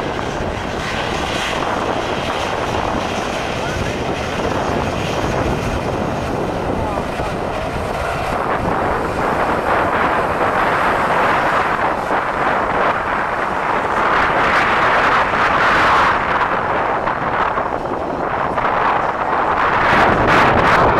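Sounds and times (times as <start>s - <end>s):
jet engines roaring: 0.0s - 20.9s
wind buffeting microphone: 0.0s - 20.9s.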